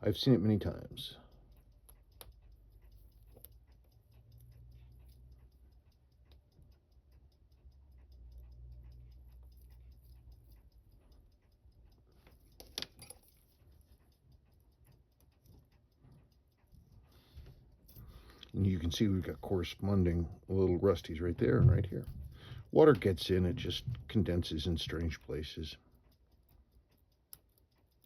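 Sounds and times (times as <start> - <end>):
low steady hum: 0.0 - 28.0
watch ticking: 0.0 - 28.0.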